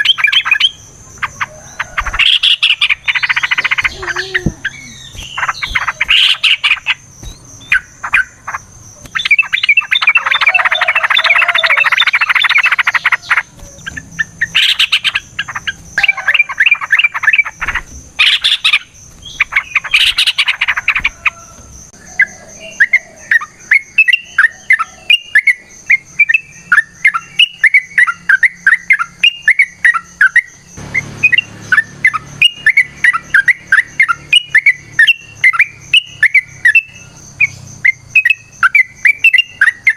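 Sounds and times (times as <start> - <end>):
bulbuls chattering song: 0.0 - 39.9
quick repeated bird chirps: 0.0 - 39.9.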